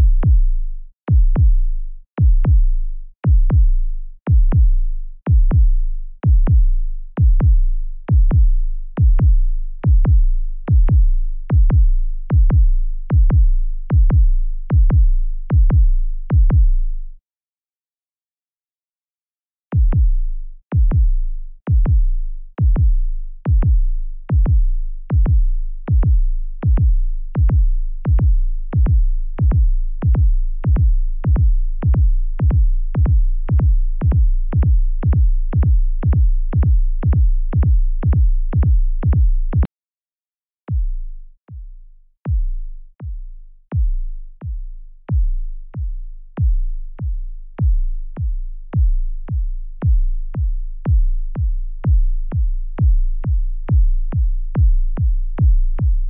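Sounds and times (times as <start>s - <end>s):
heartbeat thumps with clicks: 0.0s - 0.5s, 1.1s - 1.6s, 2.2s - 16.8s, 19.8s - 39.7s, 40.7s - 56.0s.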